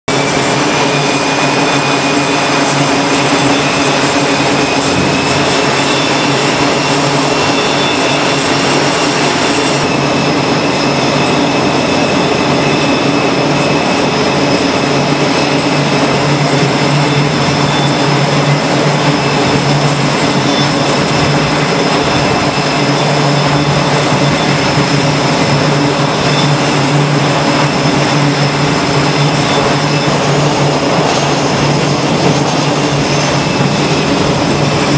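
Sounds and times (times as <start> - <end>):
high steady whine: 0.1 - 34.9
jet engines running: 0.1 - 34.9.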